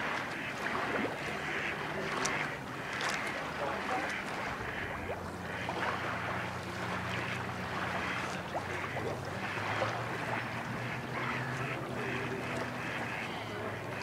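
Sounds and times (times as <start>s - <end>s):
boat engine humming: 0.0s - 14.0s
lake water lapping: 0.0s - 14.0s
wind: 0.0s - 14.0s.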